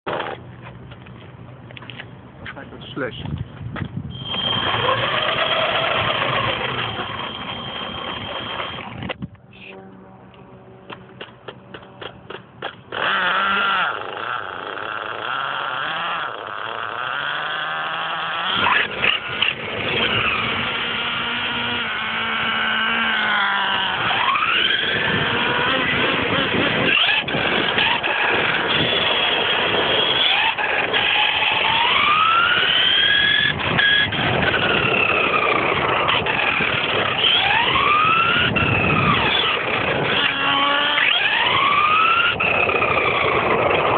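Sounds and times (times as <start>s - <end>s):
rc car motor whining: 4.1s - 9.2s, 12.6s - 43.9s.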